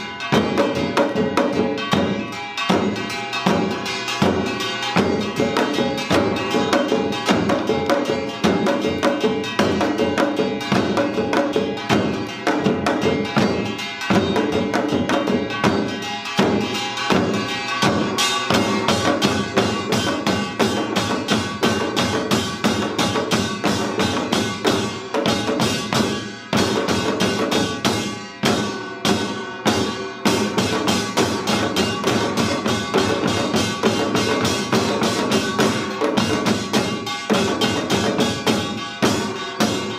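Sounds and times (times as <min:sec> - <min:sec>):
drum ensemble playing fast patterns: 0:00.0 - 0:39.9
steady ringing tones: 0:00.0 - 0:39.9.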